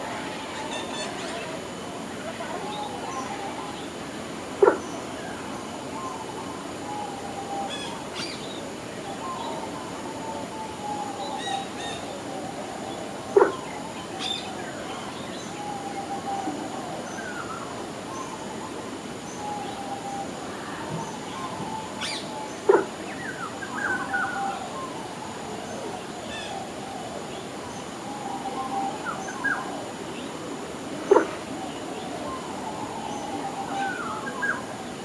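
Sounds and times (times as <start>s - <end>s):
steady outdoor hiss: 0.0s - 35.0s.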